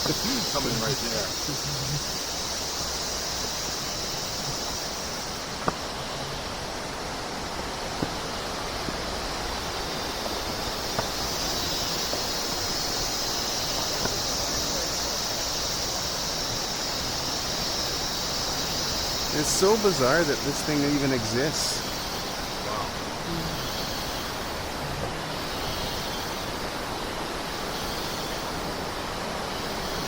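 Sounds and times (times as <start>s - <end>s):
rush of falling water: 0.0s - 30.0s.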